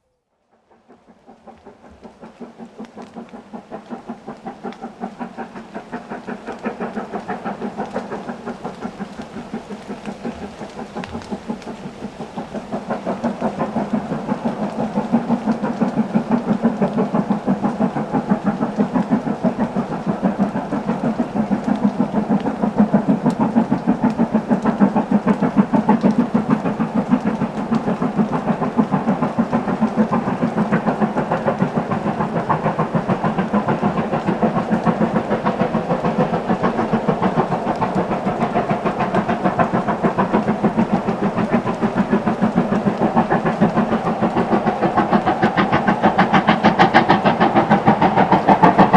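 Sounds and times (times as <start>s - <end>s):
steam locomotive exhaust beating: 0.0s - 48.9s.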